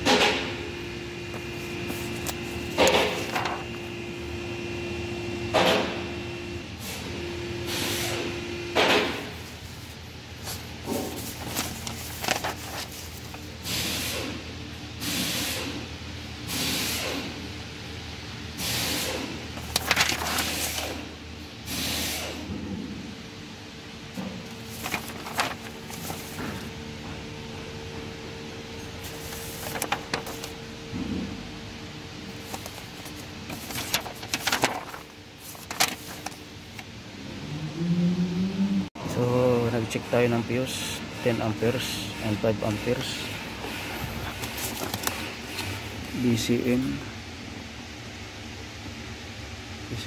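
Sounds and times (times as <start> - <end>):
steady hum: 0.0 - 15.0, 17.6 - 21.7, 22.5 - 50.0.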